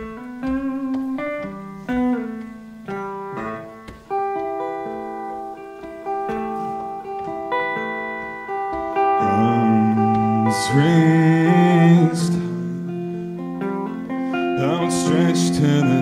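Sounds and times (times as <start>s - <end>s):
plucked string notes and chords: 0.0s - 16.0s.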